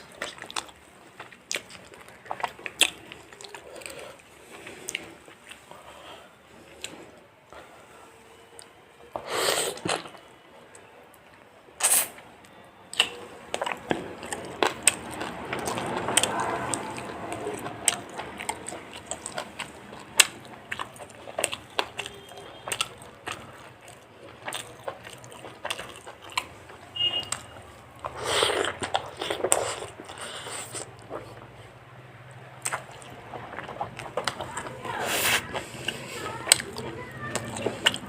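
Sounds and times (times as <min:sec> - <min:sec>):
person chewing food: 0:00.0 - 0:07.8, 0:08.4 - 0:11.2, 0:11.8 - 0:38.0.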